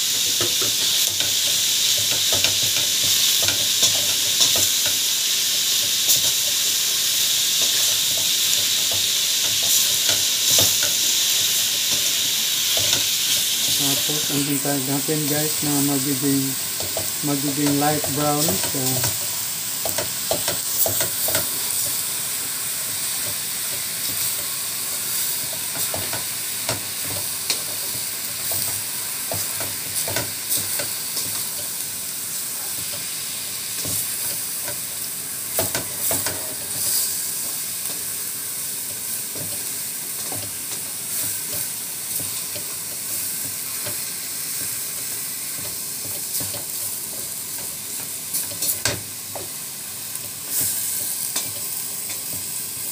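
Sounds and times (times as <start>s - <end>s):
meat sizzling in a pot: 0.0s - 52.9s.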